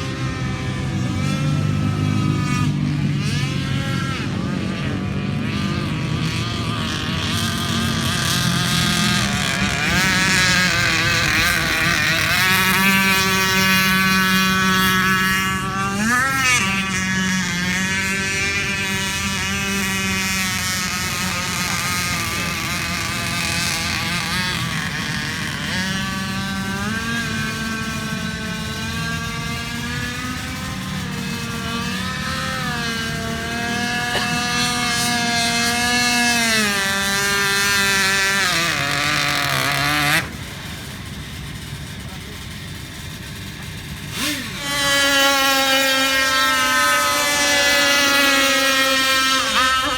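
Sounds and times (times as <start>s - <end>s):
model boat motor revving: 0.0s - 49.9s.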